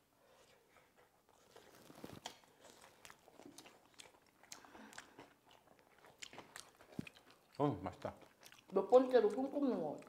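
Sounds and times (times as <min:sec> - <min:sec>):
person chewing food: 0:01.4 - 0:10.0.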